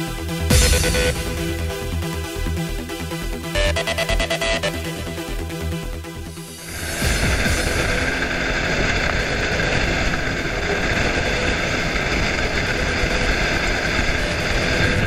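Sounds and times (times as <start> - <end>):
boat engine: 0.0 - 15.0.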